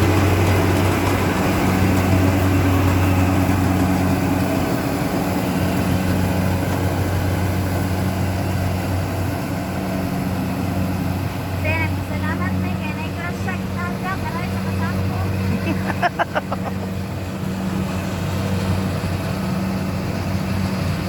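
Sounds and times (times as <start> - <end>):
harvesting machine engine humming: 0.0 - 21.0.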